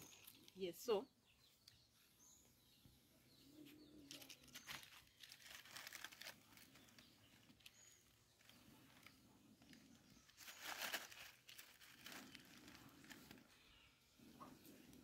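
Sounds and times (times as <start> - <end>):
crackling of small wood fire: 0.0 - 1.0, 3.8 - 15.0.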